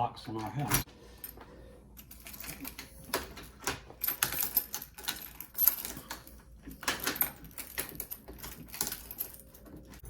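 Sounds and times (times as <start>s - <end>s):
keys rattling in a lock: 0.3s - 10.0s.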